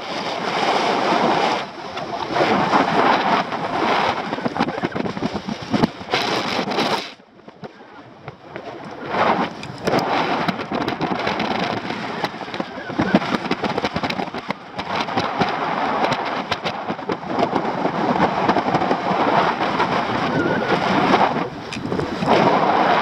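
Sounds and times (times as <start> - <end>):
crackling wind buffets: 0.0 - 23.0
wind rushing over microphone: 0.0 - 23.0.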